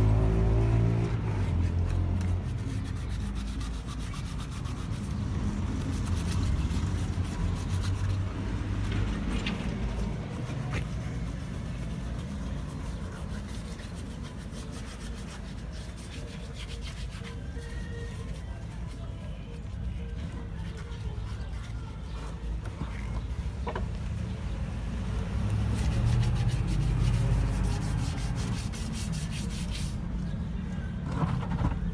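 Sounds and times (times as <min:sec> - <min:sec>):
sandpaper scrubbing metal: 0:00.2 - 0:08.8, 0:09.9 - 0:22.5, 0:25.6 - 0:30.0.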